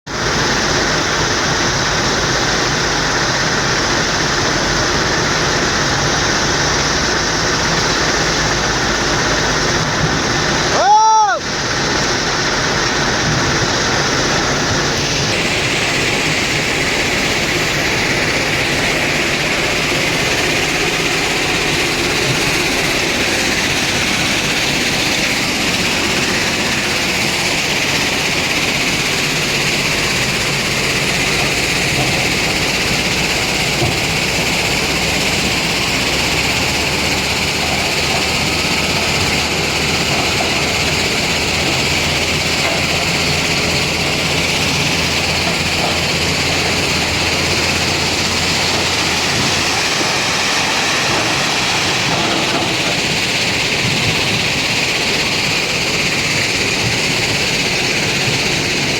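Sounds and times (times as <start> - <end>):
heavy construction machinery: 0.1 - 58.9.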